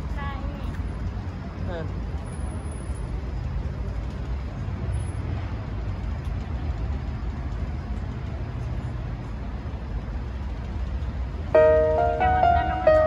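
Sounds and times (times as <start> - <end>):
rumble of road traffic: 0.0 - 13.0.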